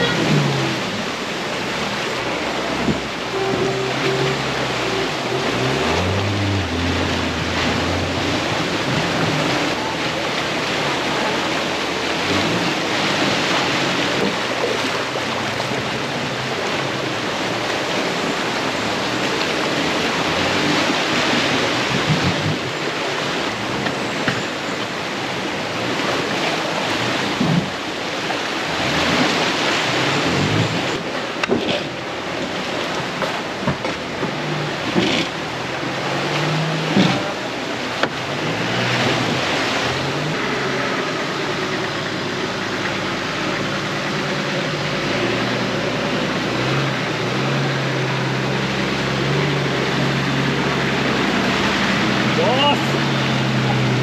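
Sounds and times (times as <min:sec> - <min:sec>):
trucks splashing through river: 0:00.0 - 0:54.0.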